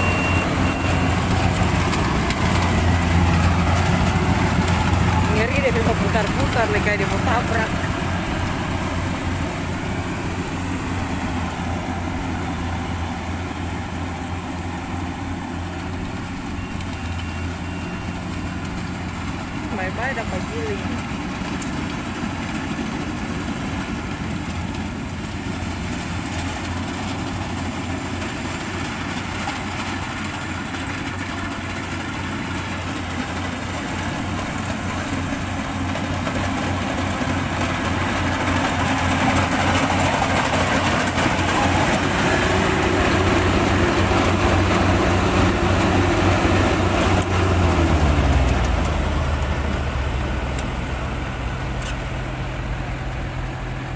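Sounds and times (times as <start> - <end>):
combine harvester diesel engine: 0.0 - 53.9.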